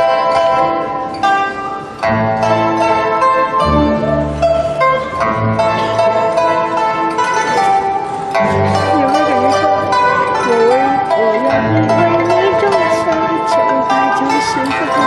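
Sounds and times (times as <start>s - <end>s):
plucked strings melody: 0.0s - 15.0s
held low bass notes: 2.0s - 15.0s.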